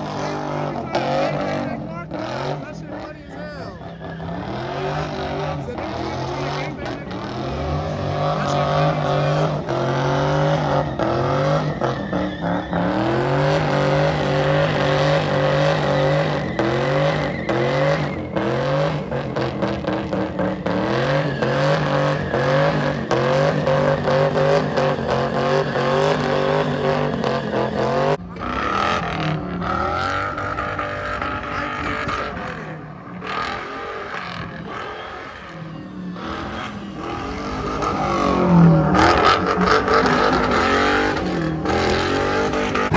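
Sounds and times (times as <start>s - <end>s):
car engine revving: 0.0s - 42.9s
lower engine note: 3.8s - 42.9s.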